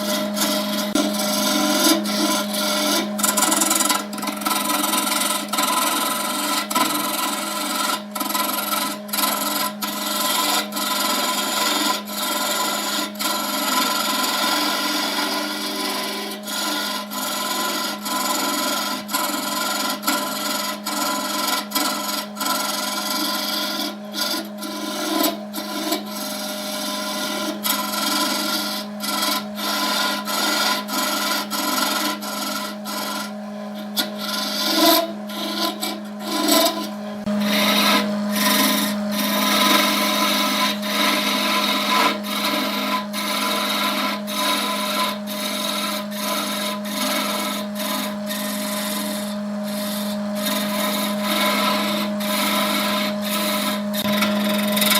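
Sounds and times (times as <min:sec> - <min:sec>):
tool rasping on spinning wood: 0:00.0 - 0:54.9
wood lathe humming: 0:00.0 - 0:54.9.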